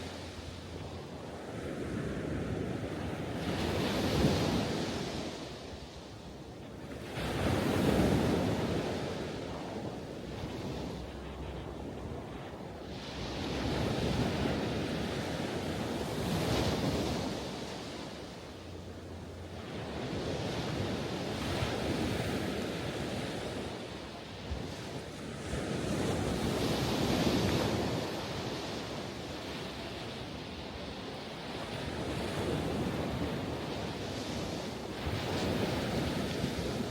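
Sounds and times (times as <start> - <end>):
ocean waves breaking on shore: 0.0 - 36.9.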